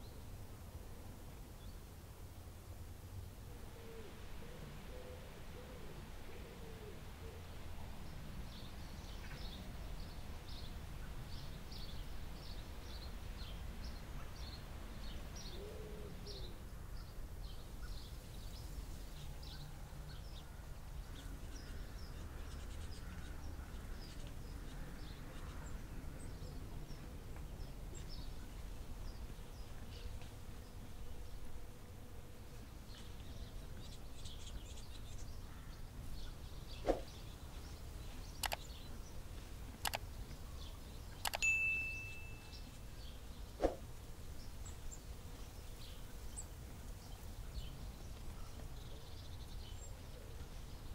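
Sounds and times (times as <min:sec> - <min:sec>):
small birds chirping: 0:08.0 - 0:31.5, 0:32.5 - 0:50.9.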